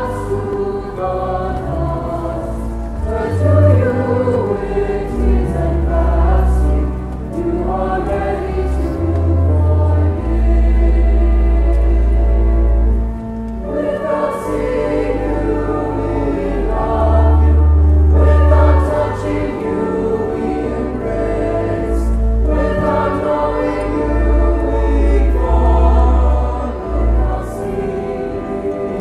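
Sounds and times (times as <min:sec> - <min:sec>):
choir singing: 0:00.0 - 0:29.0
pipe organ: 0:00.0 - 0:29.0.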